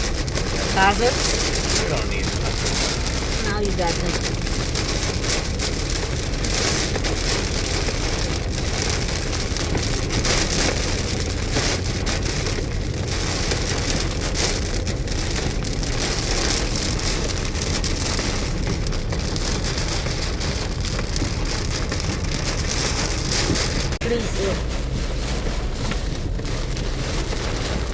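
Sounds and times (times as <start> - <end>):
heavy rain on car: 0.0 - 27.9
low road rumble: 0.0 - 27.9.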